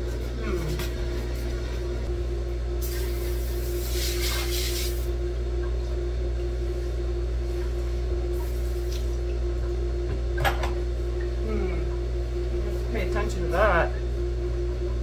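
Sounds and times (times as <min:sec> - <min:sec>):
electric water pump humming: 0:00.0 - 0:15.0.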